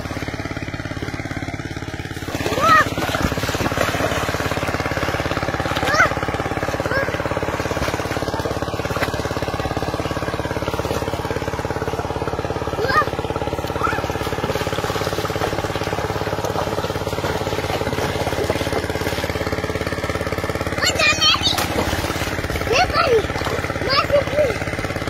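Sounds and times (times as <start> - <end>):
small engine running steadily: 0.0 - 25.0.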